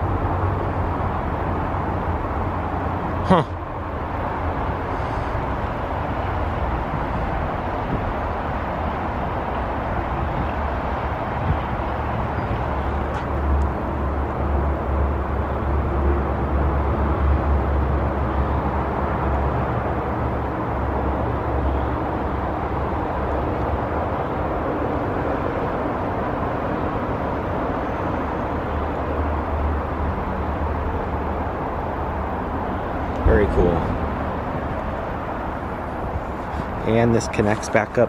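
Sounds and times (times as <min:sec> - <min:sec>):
freeway traffic rumble: 0:00.0 - 0:38.0.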